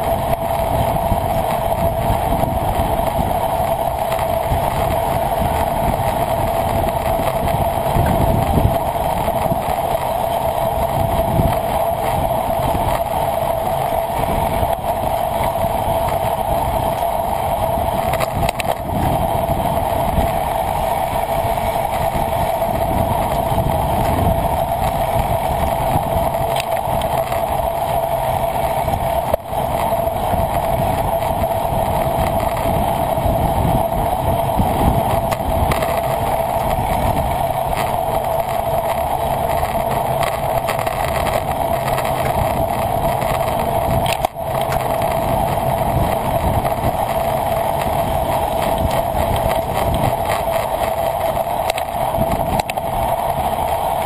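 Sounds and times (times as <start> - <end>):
steady mid-pitched hum: 0.0 - 54.0
wind rumbling over microphone: 0.0 - 54.0.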